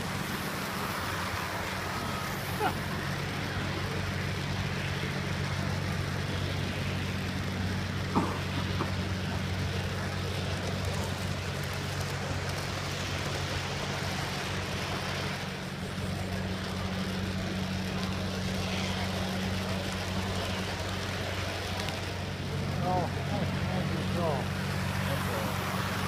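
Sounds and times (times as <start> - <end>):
model train rolling rumble: 0.0 - 26.0.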